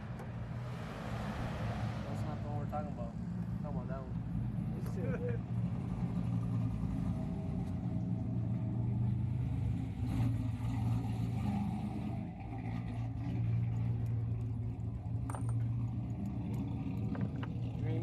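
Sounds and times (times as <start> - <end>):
vehicle engine idling: 2.1 - 18.0.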